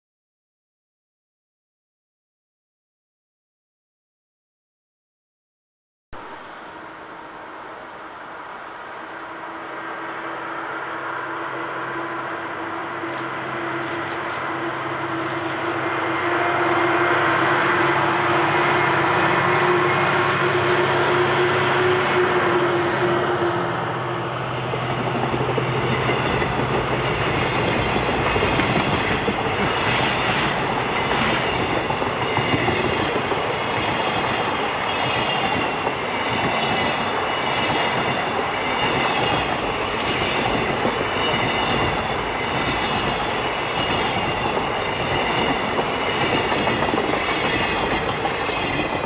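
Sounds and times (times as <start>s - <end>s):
freight train rumbling past: 6.2s - 49.0s
wheels squealing on rails: 6.3s - 49.0s.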